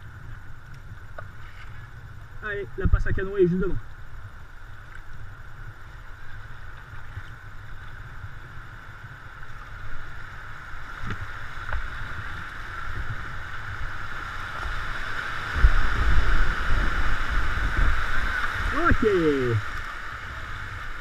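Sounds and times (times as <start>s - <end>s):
low rumbling of rapids: 0.0s - 21.0s
river water rushing and splashing: 0.0s - 21.0s.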